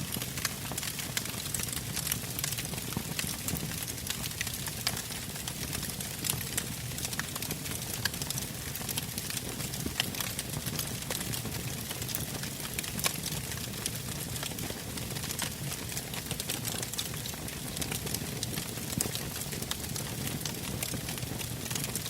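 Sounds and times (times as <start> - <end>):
logs crackling and popping: 0.0 - 22.0.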